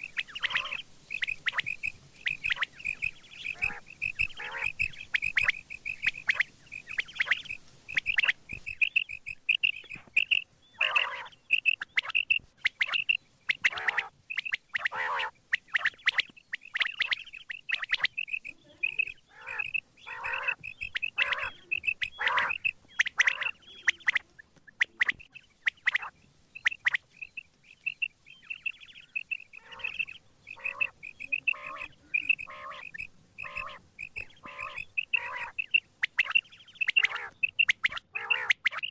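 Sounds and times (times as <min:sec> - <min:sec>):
quail calling: 0:00.0 - 0:38.9.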